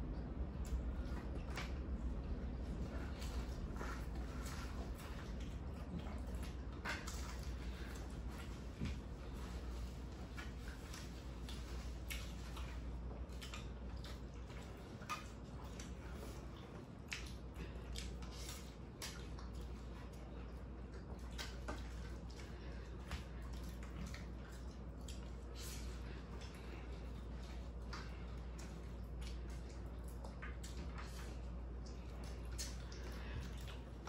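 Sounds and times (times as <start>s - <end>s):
people chewing and lip-smacking: 0.0s - 34.0s.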